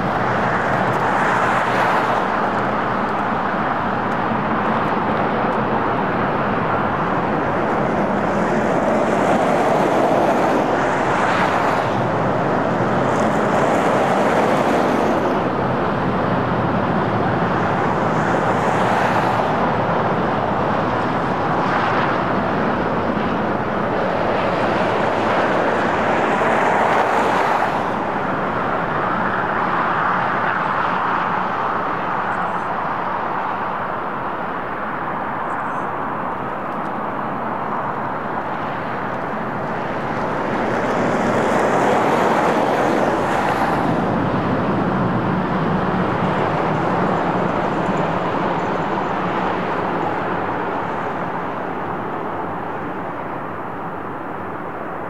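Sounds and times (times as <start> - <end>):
snow plow train rumbling: 0.0 - 30.5, 36.4 - 54.6.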